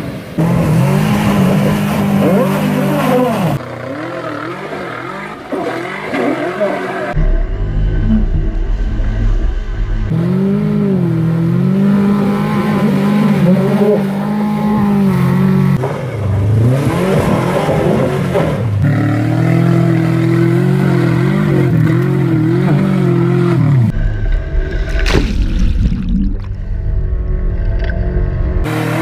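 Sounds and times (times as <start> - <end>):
car engine at high revs: 0.3 - 25.0, 27.4 - 29.0.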